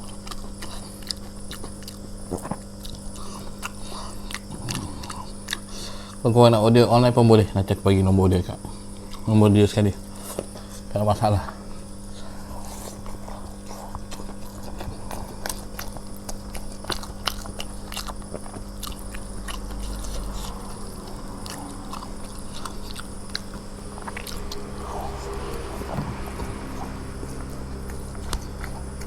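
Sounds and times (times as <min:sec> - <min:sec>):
person chewing food: 0:00.0 - 0:06.2, 0:08.6 - 0:09.3, 0:11.6 - 0:29.0.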